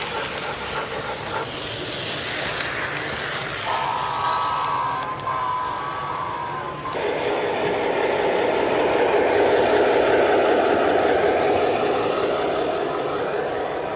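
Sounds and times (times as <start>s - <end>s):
model train rolling past: 0.0s - 13.9s.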